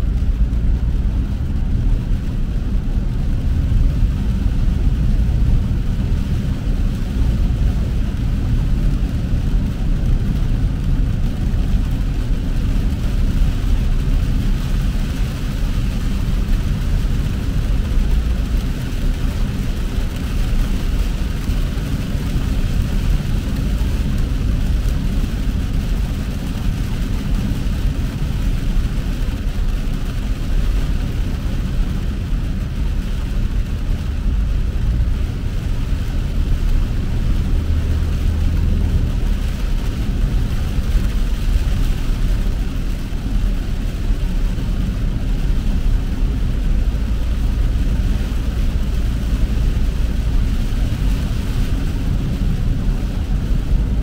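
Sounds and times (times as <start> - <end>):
engine and tyres rumbling: 0.0 - 54.0
tyres hissing on wet road: 0.0 - 54.0.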